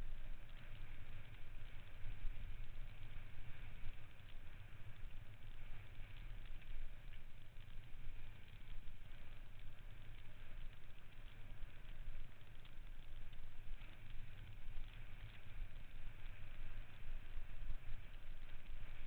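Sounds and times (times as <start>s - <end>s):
wind and vibration rumble: 0.0s - 19.0s.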